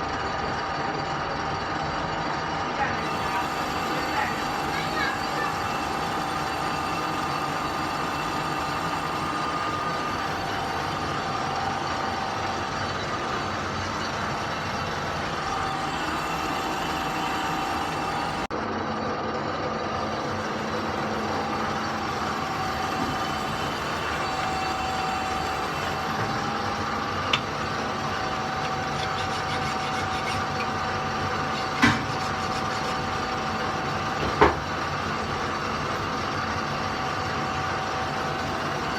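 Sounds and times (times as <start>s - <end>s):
workshop machine whining: 0.0s - 38.9s.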